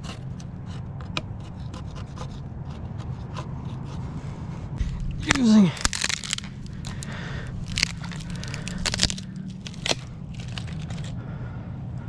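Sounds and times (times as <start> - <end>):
knife cutting wood cracks: 0.0 - 4.0, 4.8 - 11.2.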